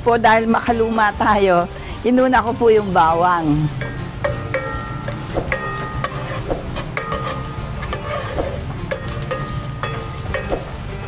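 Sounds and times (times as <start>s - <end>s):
garlic sizzling in oil: 0.8s - 11.0s
wooden spatula scraping metal pot: 1.2s - 11.0s.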